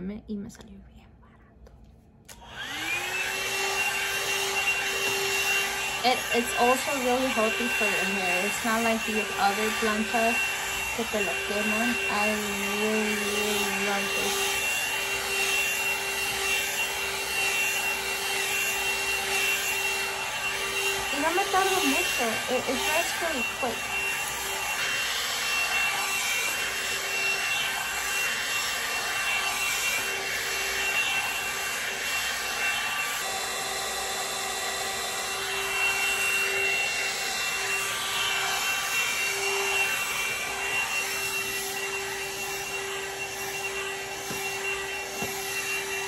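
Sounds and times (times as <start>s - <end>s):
hot air brush fan whine: 2.3s - 46.0s.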